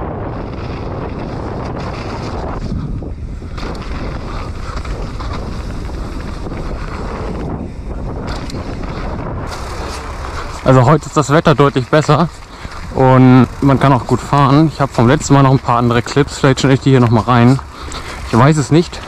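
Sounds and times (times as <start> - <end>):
bike tyre noise on dirt: 0.0 - 19.0
wind buffeting microphone: 0.0 - 19.0.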